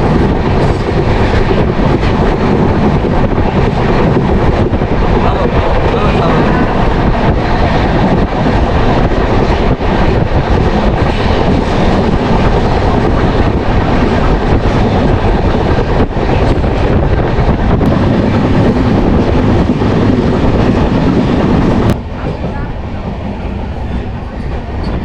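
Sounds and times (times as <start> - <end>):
rushing air: 0.0 - 25.0
train wheels rumbling on rails: 0.0 - 25.0.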